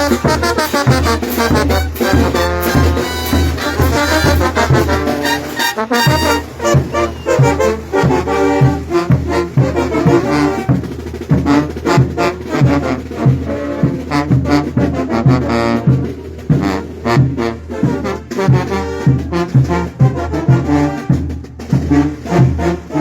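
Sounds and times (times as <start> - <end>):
drum beat: 0.0 - 23.0
trombones and trumpets: 0.0 - 23.0.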